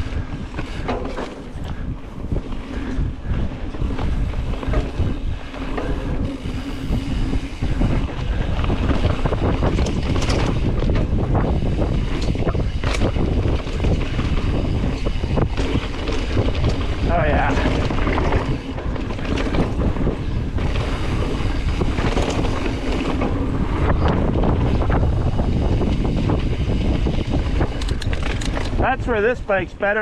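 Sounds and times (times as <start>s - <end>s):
tyres rumbling over dirt: 0.0s - 29.5s
bike clicks and clacks: 0.0s - 30.0s
wind buffeting microphone: 0.0s - 30.0s.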